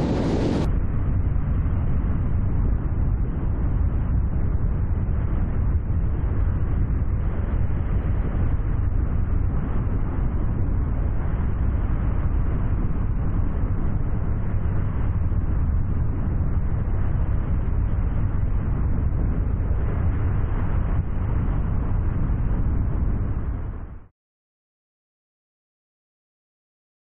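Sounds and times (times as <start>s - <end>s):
wind on microphone: 0.0s - 24.1s.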